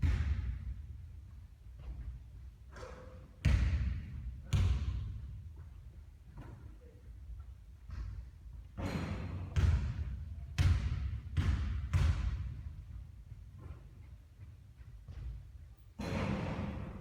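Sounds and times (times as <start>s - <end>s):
basketball bouncing on court: 0.0s - 2.4s, 3.4s - 17.0s.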